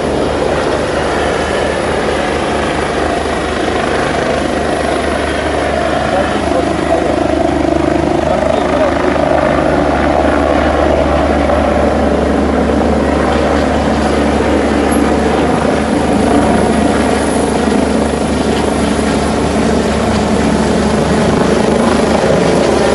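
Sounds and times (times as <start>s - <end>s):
helicopter rotor and turbine noise: 0.0s - 22.9s.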